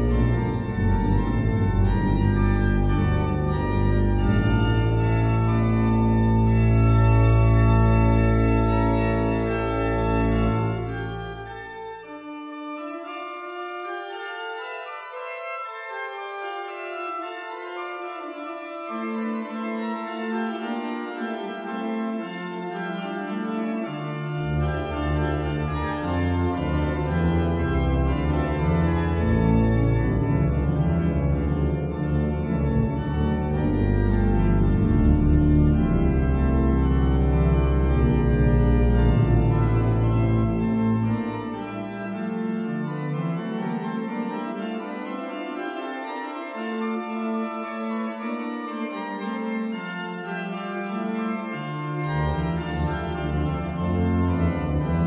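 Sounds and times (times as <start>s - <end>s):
church organ chords: 0.0s - 55.0s
deep organ pedal bass notes: 0.0s - 55.0s.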